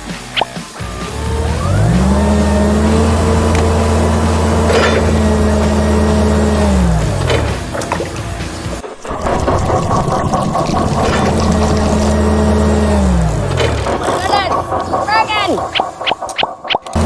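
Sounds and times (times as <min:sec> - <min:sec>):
engine winding up and down: 0:00.3 - 0:17.0.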